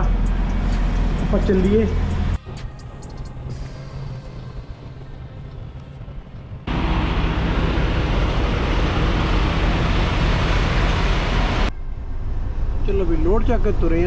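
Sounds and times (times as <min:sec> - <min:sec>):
semi-truck engine rumble: 0:00.0 - 0:14.0
truck road noise: 0:00.0 - 0:14.0.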